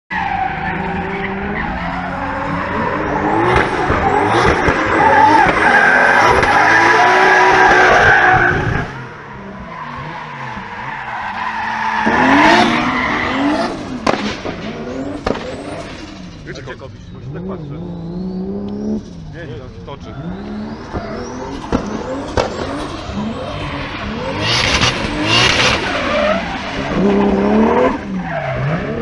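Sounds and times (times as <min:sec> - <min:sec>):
car engine revving hard: 0:00.7 - 0:10.8, 0:11.6 - 0:16.4, 0:20.1 - 0:29.0.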